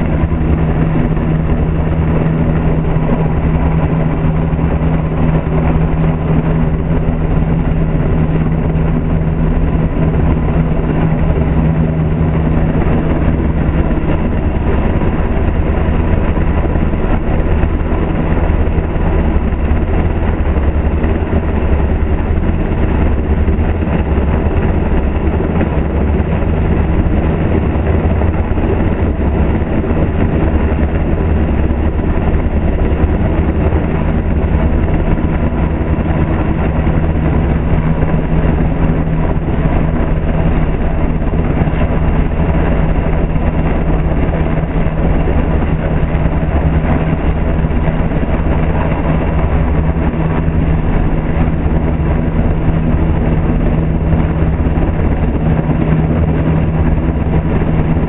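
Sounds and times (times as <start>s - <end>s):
helicopter hovering overhead: 0.0s - 58.0s.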